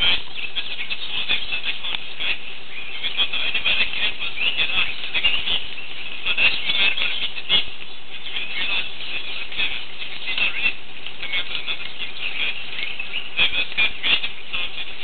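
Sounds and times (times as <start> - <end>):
animals squealing and chattering: 0.0 - 15.0.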